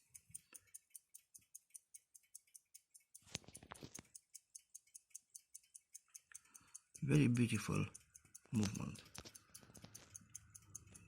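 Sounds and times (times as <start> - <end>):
pocket watch ticking: 0.0 - 11.0.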